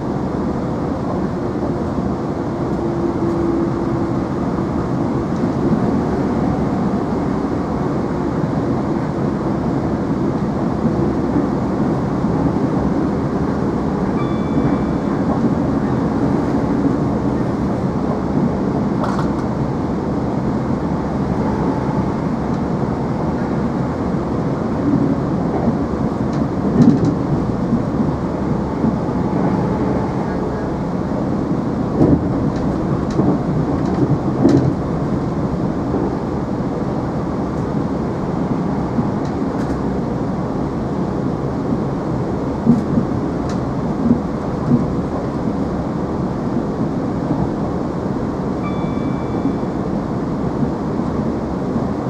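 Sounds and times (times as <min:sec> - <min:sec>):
wheels rumbling on track: 0:00.0 - 0:52.0.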